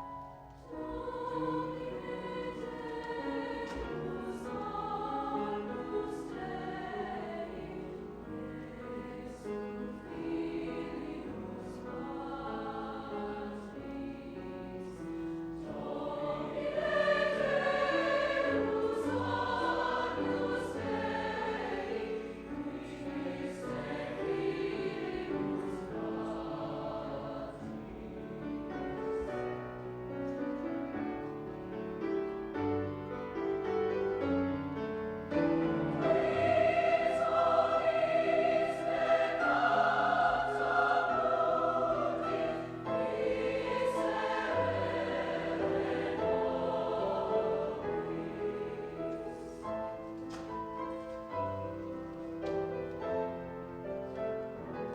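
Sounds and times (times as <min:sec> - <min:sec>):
choir singing held notes: 0:00.1 - 0:29.4, 0:35.3 - 0:53.4.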